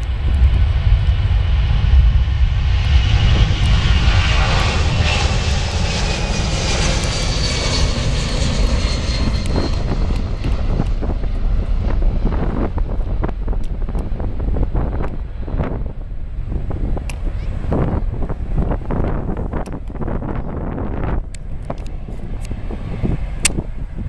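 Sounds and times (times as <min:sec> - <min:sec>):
jet taking off overhead: 0:00.0 - 0:24.0.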